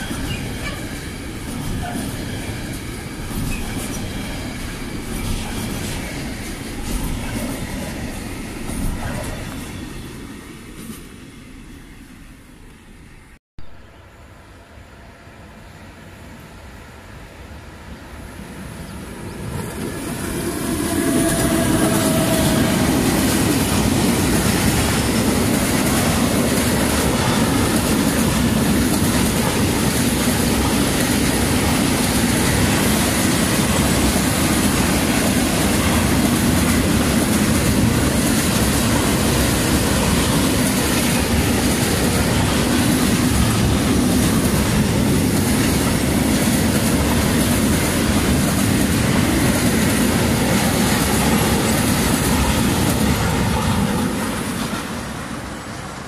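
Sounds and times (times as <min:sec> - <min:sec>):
freight train wheels on rails: 0:00.0 - 0:13.9, 0:14.8 - 0:56.0.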